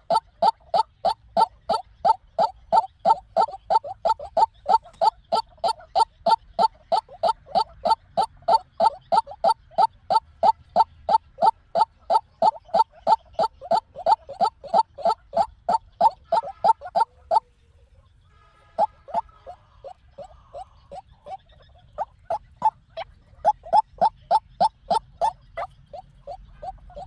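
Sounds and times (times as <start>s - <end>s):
waterhen calling harsh notes: 0.0s - 17.4s, 18.6s - 27.0s.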